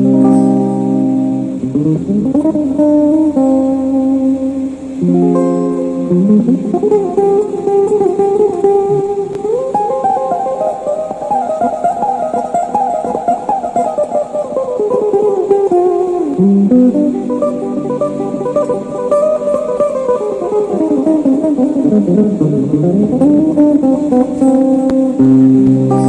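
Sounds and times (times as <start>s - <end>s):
clean electric guitar solo: 0.0s - 26.0s.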